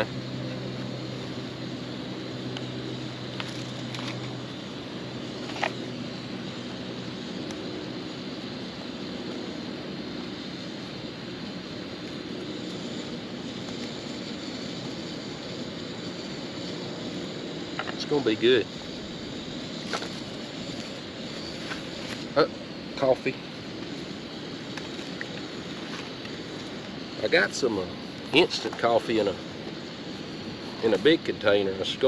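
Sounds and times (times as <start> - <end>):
background hiss: 0.0 - 32.0
distant engine droning: 0.0 - 32.0.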